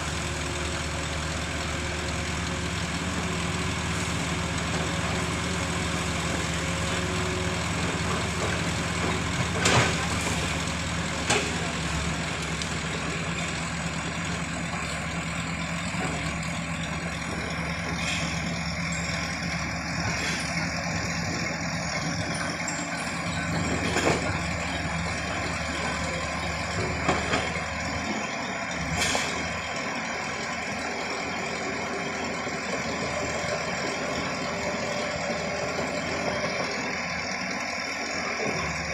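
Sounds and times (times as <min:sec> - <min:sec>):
heavy engine running at low revs: 0:00.0 - 0:38.9.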